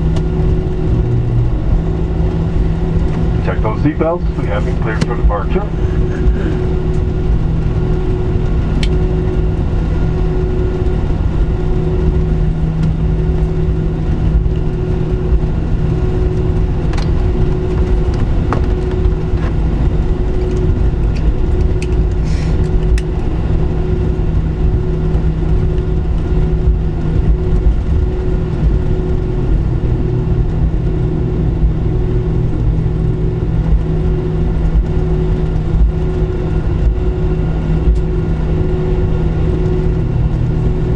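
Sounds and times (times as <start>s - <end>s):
jet engine drone in cabin: 0.0s - 40.9s
pulsing humming tone: 0.0s - 40.9s.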